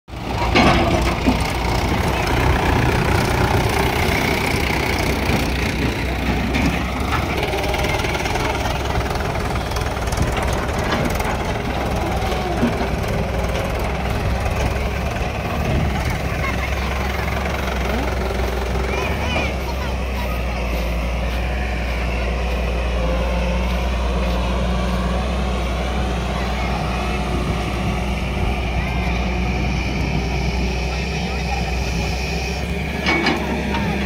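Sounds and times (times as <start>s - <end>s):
diesel tractor engines idling: 0.1s - 34.0s
excavator engine running: 0.1s - 34.0s.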